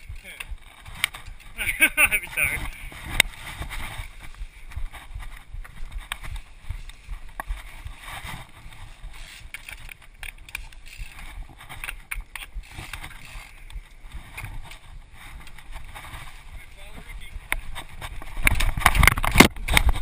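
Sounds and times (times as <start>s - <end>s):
bike rattling and knocking: 0.0s - 20.0s.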